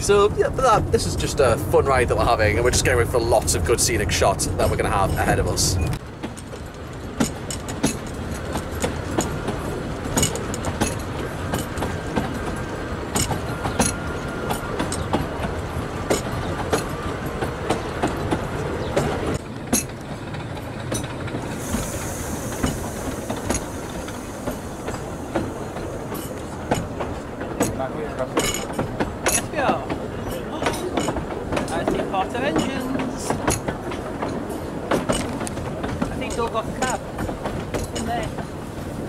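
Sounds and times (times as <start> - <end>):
railway carriage rumbling: 0.0 - 39.0
wheels clicking over rail joints: 0.0 - 39.0.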